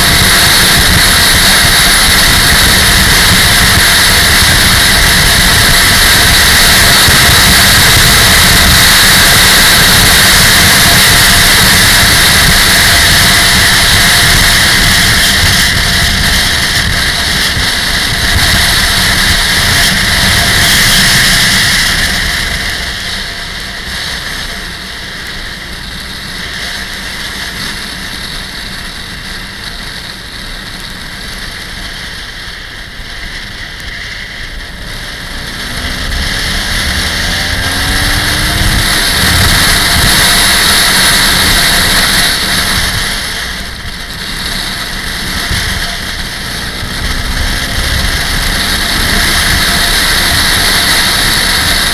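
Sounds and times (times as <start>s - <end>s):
motorcycle engine running: 0.0s - 51.9s
wind rushing over microphone: 0.0s - 51.9s.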